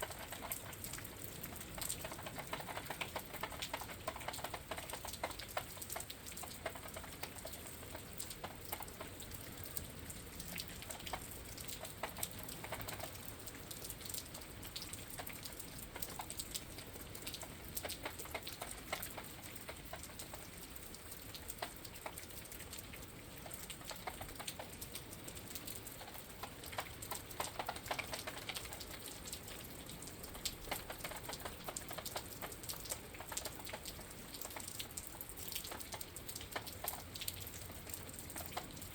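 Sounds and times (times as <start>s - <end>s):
rain patter through window: 0.0s - 38.9s
sharp raindrop impacts: 0.0s - 38.9s.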